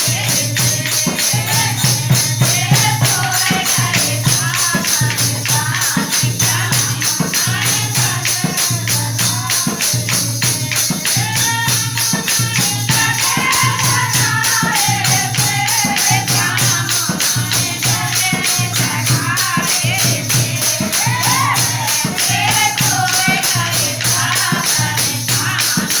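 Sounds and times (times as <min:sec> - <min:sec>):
jingling percussion beat: 0:00.0 - 0:26.0.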